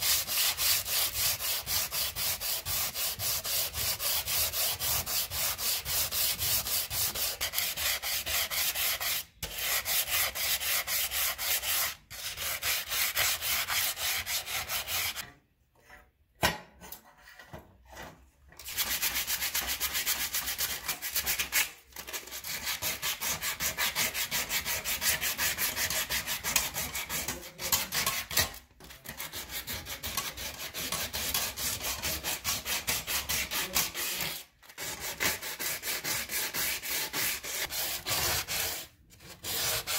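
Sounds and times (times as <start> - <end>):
sandpaper rasping on steel: 0.0 - 15.2, 18.6 - 39.9.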